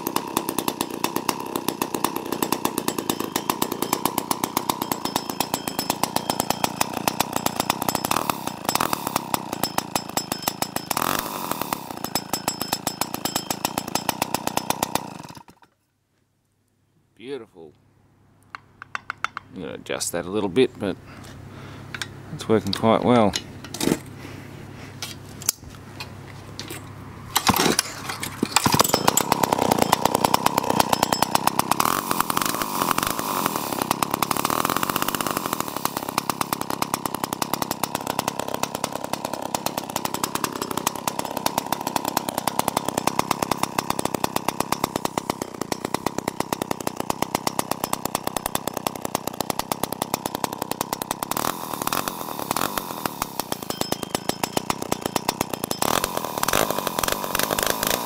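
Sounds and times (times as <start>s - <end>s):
chainsaw starting and running: 0.0s - 15.8s, 26.8s - 58.0s.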